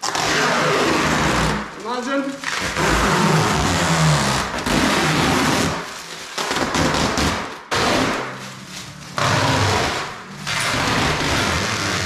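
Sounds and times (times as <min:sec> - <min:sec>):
plastic sheeting crackling and rustling: 0:00.0 - 0:12.0.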